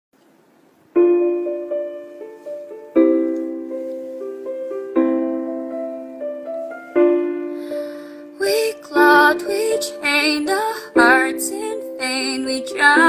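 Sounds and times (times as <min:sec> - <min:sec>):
piano chords ringing: 0:00.9 - 0:13.0
piano single-note melody: 0:00.9 - 0:13.0.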